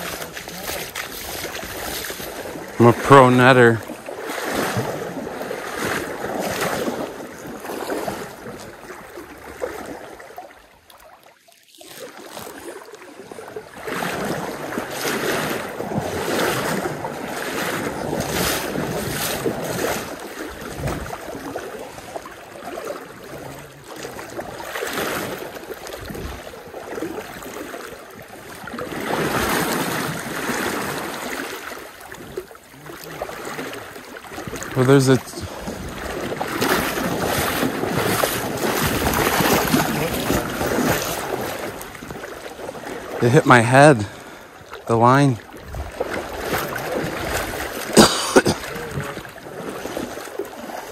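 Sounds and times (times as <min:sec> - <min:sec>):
water splashing around wading person: 0:00.0 - 0:50.9.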